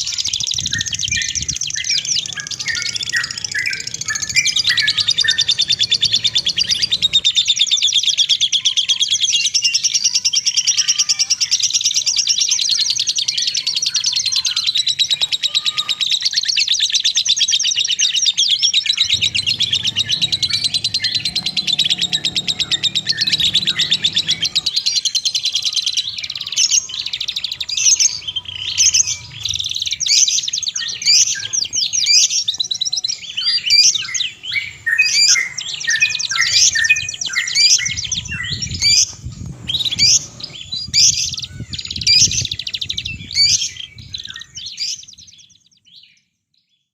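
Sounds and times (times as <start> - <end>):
songbirds trilling chirps: 0.0 - 46.9.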